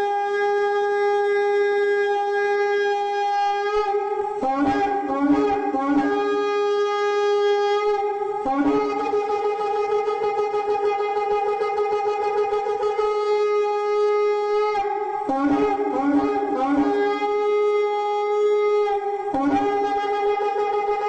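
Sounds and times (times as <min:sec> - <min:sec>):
wind instrument long held notes: 0:00.0 - 0:21.0.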